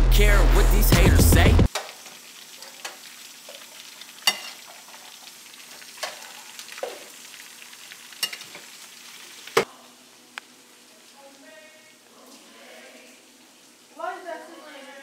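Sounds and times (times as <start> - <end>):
food sizzling on a griddle: 1.7 - 15.0.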